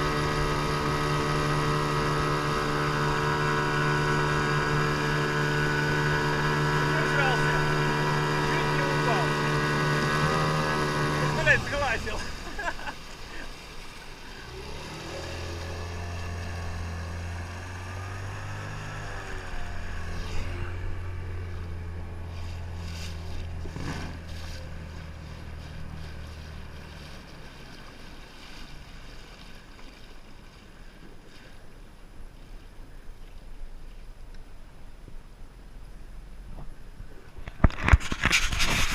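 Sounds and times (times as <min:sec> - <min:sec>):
outboard motor droning: 0:00.0 - 0:38.9.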